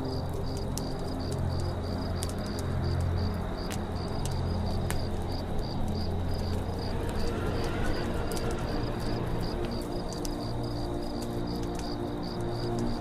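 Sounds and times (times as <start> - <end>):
campfire crackling: 0.0 - 13.0
crickets chirping: 0.0 - 13.0
low steady drone: 0.0 - 13.0.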